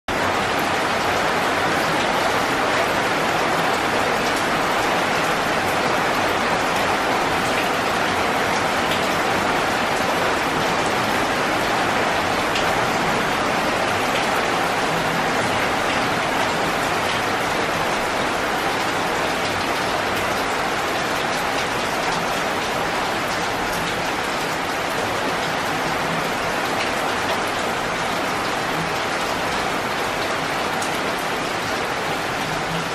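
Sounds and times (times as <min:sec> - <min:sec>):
heavy rain on leaves: 0:00.1 - 0:32.9.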